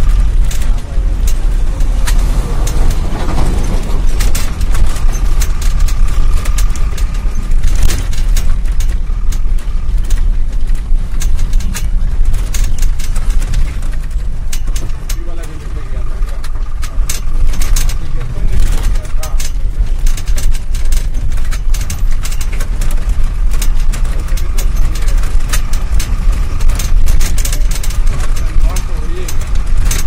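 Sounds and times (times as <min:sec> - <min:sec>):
bus body rattling and knocking: 0:00.0 - 0:30.0
bus engine and tyres rumbling: 0:00.0 - 0:30.0.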